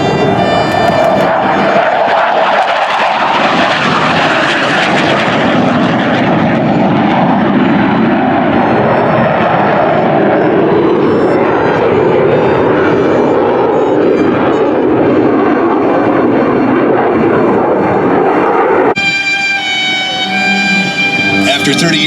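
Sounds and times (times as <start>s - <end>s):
fighter jet engines roaring: 0.0s - 22.0s.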